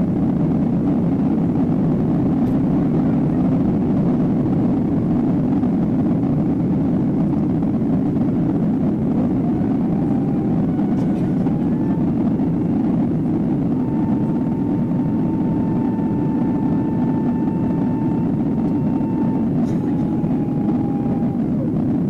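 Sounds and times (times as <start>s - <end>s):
jet engine noise in cabin: 0.0s - 22.0s
thin whine: 0.0s - 22.0s.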